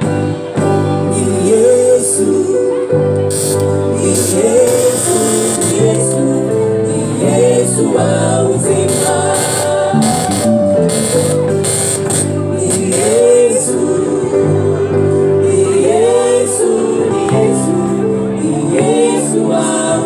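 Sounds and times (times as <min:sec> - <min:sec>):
electric keyboard chords: 0:00.0 - 0:20.0
man singing lead: 0:00.0 - 0:20.0
women singing backing vocals: 0:00.9 - 0:11.0, 0:12.5 - 0:14.6, 0:15.4 - 0:20.0.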